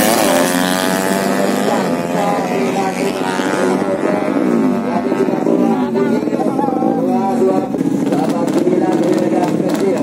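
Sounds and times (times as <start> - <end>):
motorcycle engines revving: 0.0 - 10.0.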